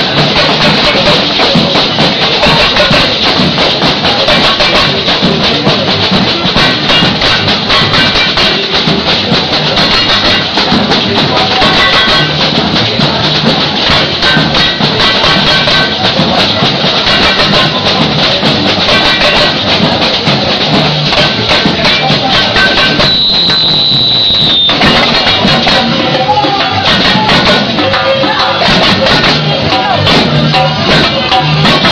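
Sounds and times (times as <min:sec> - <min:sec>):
samba drums and percussion: 0:00.0 - 0:31.9.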